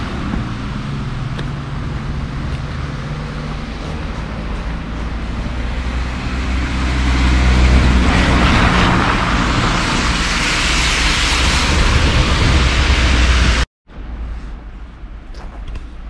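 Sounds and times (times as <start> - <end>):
road noise: 0.0 - 16.0
vehicle engine humming: 0.0 - 16.0.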